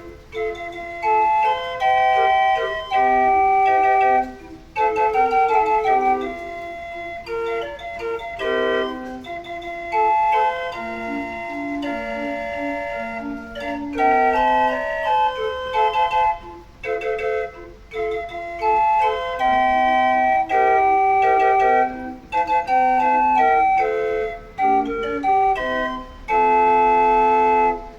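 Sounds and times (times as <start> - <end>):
barrel organ melody: 0.0 - 27.9.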